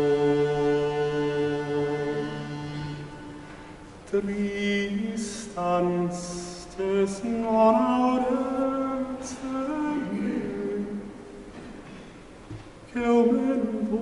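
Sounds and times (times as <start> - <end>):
man singing unaccompanied: 0.0 - 3.4, 4.1 - 11.2, 12.9 - 14.0.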